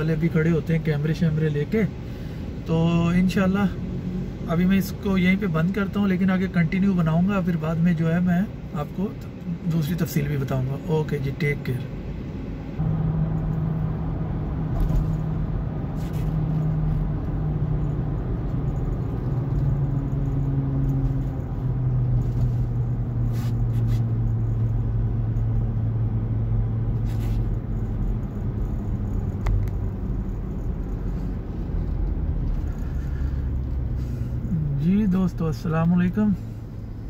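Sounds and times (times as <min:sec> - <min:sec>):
engine and tyre drone: 0:00.0 - 0:37.0.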